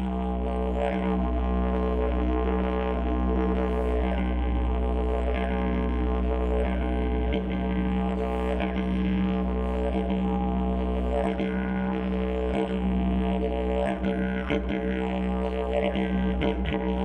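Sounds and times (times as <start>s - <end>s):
didgeridoo drone: 0.0s - 17.0s.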